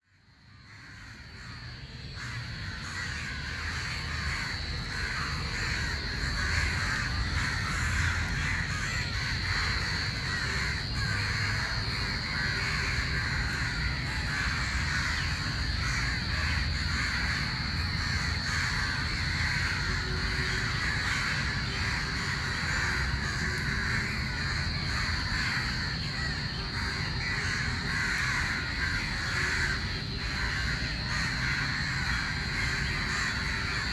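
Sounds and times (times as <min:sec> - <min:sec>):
crows cawing: 0:00.1 - 0:33.9.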